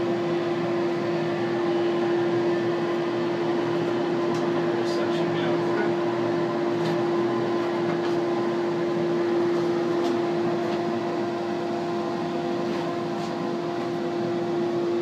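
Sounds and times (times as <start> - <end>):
vacuum motor humming: 0.0 - 15.0.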